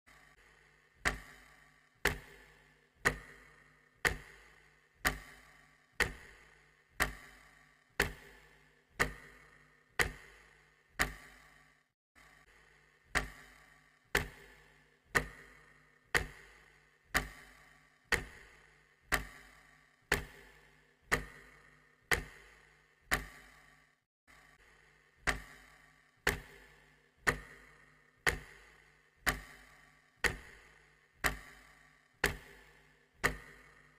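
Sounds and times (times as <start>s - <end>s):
clock ticking: 0.1s - 33.9s.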